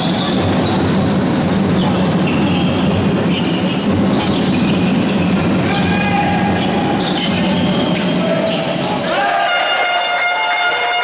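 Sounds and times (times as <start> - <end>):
sneakers squeaking: 0.0 - 10.7
din of gym hall: 0.0 - 11.0.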